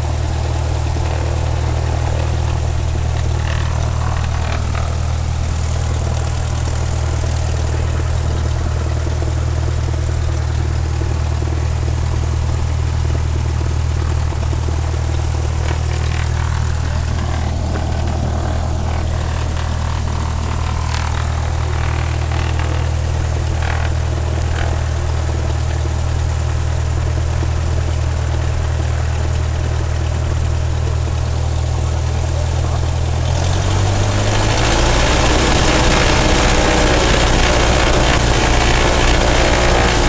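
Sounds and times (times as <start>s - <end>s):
light plane engine and propeller: 0.0s - 40.0s.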